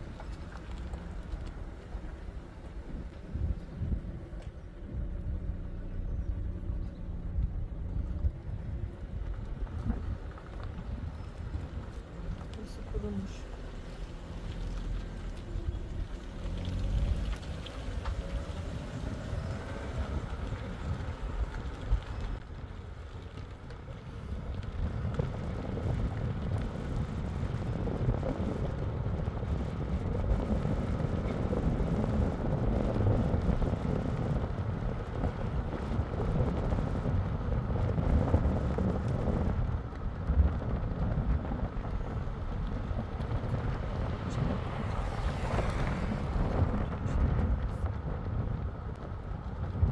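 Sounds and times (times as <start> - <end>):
car road and engine rumble: 0.0 - 49.9
wind buffeting microphone: 0.0 - 49.9.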